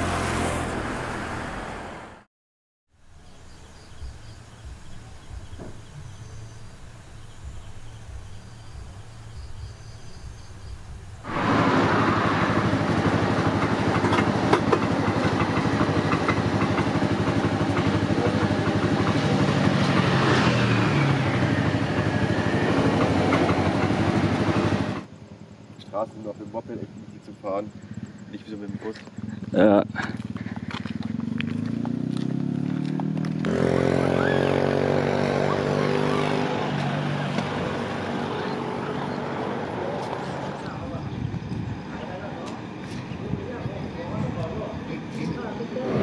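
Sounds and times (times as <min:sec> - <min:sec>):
motorbike engines: 0:00.0 - 0:02.3, 0:03.2 - 0:46.0
road traffic noise: 0:00.0 - 0:02.3, 0:02.9 - 0:46.0
vehicle passing: 0:00.0 - 0:02.3, 0:04.2 - 0:25.1, 0:27.6 - 0:46.0.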